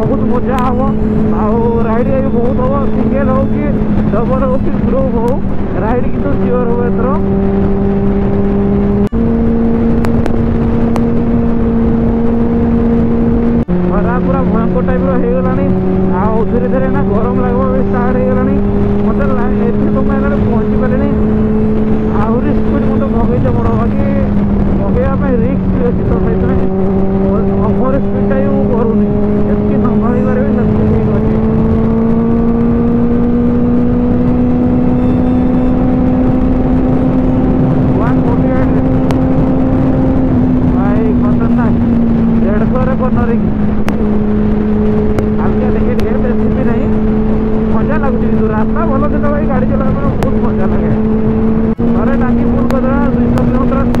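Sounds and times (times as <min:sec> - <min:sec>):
motorcycle engine cruising: 0:00.0 - 0:54.0
road noise: 0:00.0 - 0:54.0
rushing wind: 0:00.0 - 0:54.0.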